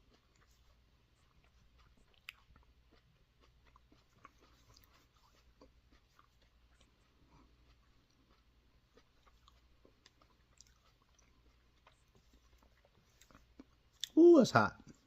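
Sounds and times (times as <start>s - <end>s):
chewing with wet mouth clicks: 0.0s - 14.2s.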